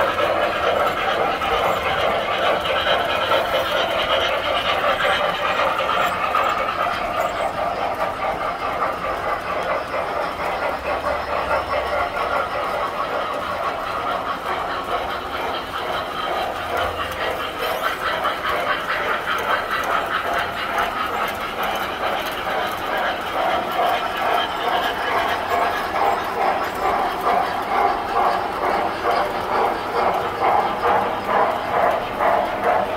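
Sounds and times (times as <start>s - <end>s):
toy train rattling on metal track: 0.0s - 32.9s.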